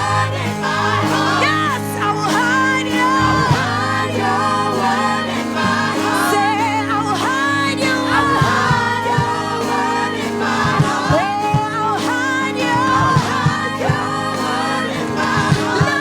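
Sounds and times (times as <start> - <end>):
band playing: 0.0 - 16.0
choir singing: 0.0 - 16.0
sustained keyboard chords: 0.0 - 16.0.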